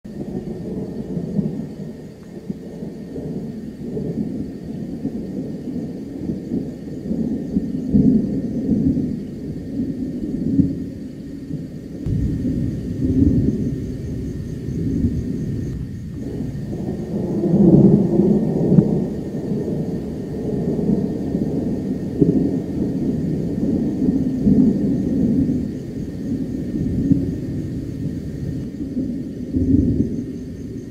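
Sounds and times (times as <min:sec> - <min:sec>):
thunder rumbling: 0:00.1 - 0:30.9.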